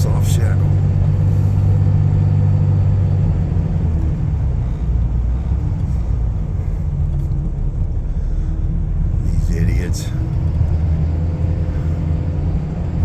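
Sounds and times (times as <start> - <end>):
truck engine drone in cab: 0.0 - 13.0.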